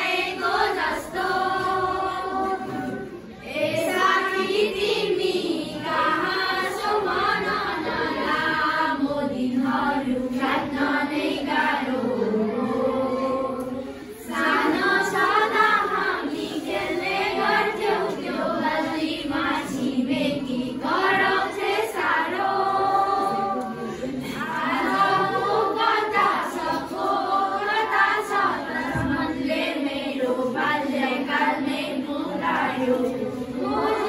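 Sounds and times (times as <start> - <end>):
children singing in unison: 0.0 - 34.0.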